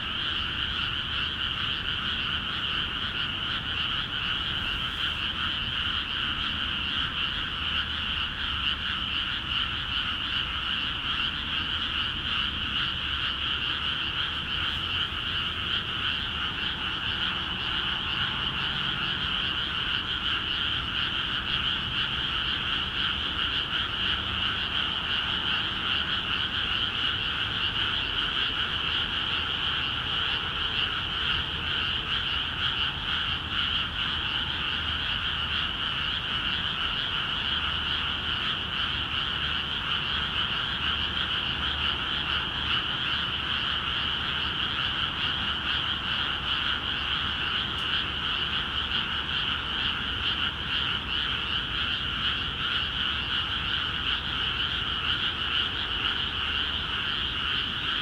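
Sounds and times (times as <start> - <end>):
chorus of frogs calling: 0.0 - 58.0.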